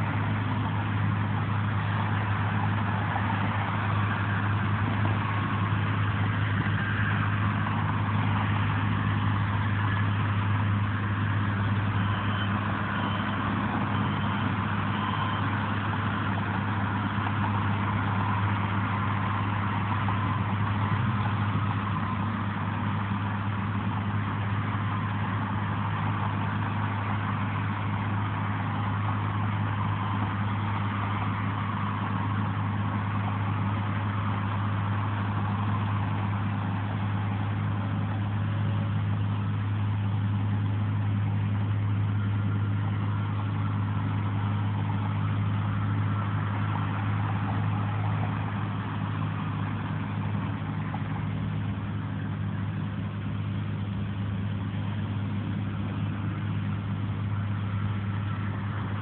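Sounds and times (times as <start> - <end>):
road traffic noise: 0.0 - 59.0
vehicle engine idling: 0.0 - 59.0.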